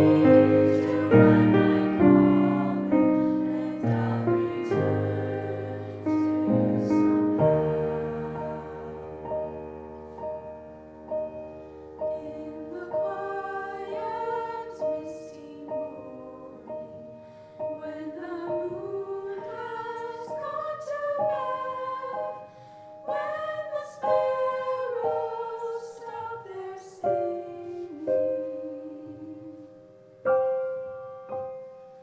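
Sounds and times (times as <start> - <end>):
children's chorus singing: 0.0 - 9.6, 12.1 - 17.0, 17.8 - 22.5, 23.1 - 29.7
piano chords: 0.0 - 32.0.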